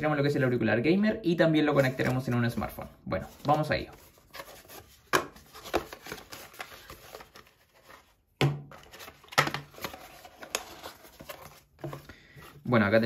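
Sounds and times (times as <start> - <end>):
cardboard packaging rustling: 1.7 - 13.0.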